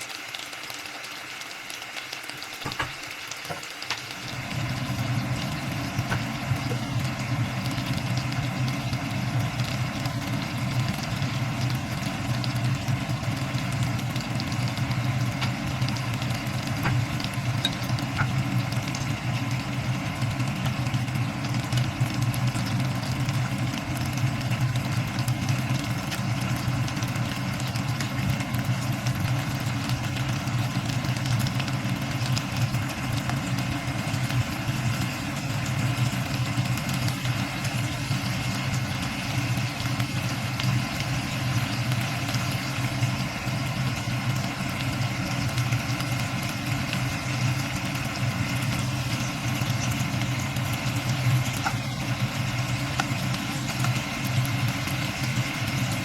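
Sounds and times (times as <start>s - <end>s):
faint hiss of cooking: 0.0s - 56.0s
low motor hum: 4.1s - 56.0s.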